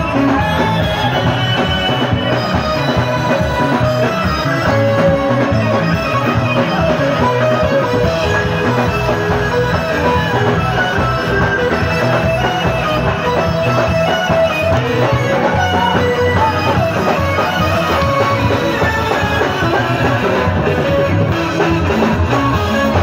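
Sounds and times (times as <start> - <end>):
guitar dance music over loudspeakers: 0.0 - 23.0.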